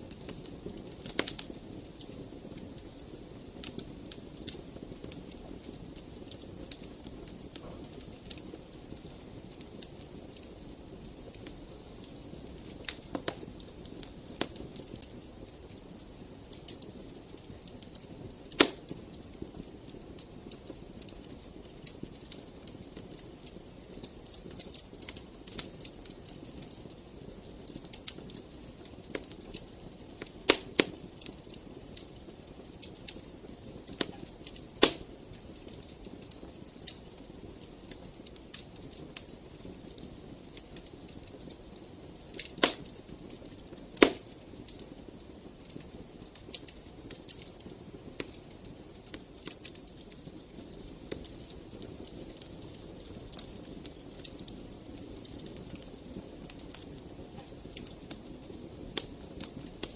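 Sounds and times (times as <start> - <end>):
fire low steady hiss: 0.0 - 59.9
wood fire crackling and popping: 0.0 - 59.9.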